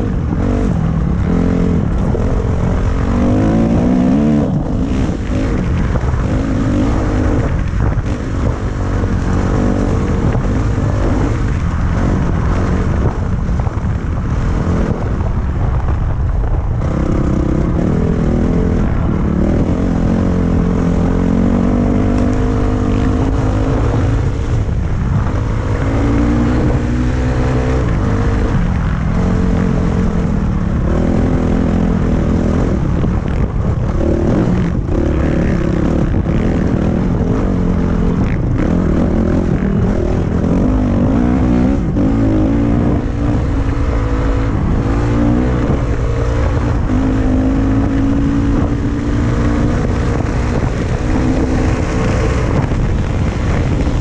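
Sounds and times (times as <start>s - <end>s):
dirt bike engine revving: 0.0s - 13.1s, 16.8s - 54.0s
wind rushing on microphone: 0.0s - 54.0s.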